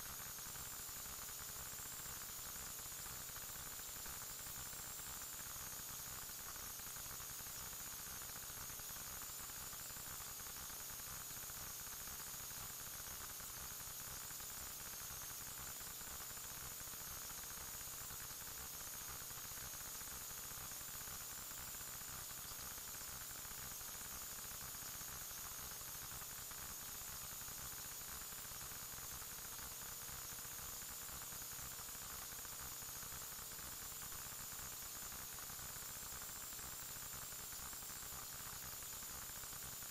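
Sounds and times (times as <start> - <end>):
electronic static hiss: 0.0 - 39.9
thin high-pitched whine: 0.0 - 39.9.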